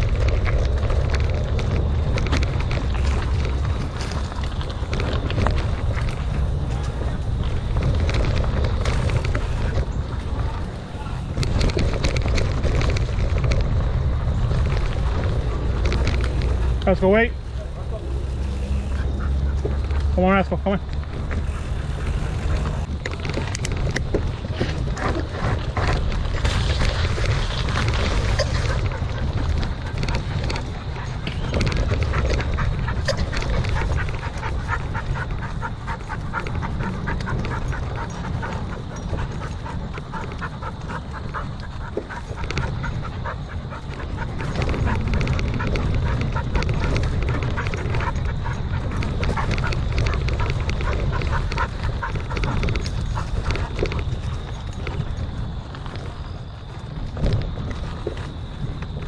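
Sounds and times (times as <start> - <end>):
dog panting: 0.0 - 58.3
bike rolling over dirt trail: 0.0 - 59.0
clicks and rattles from bike: 0.0 - 59.0.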